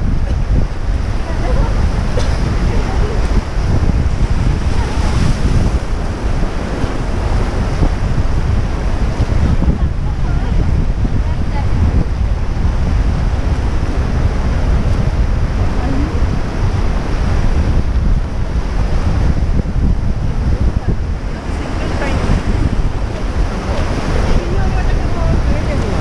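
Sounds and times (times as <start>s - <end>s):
rushing whitewater: 0.0s - 26.0s
wind rumble on microphone: 0.0s - 26.0s.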